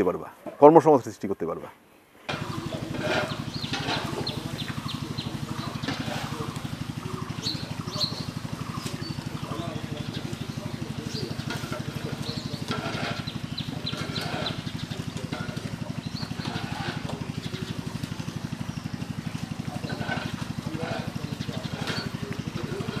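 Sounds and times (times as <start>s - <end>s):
small engine running: 2.3s - 23.0s.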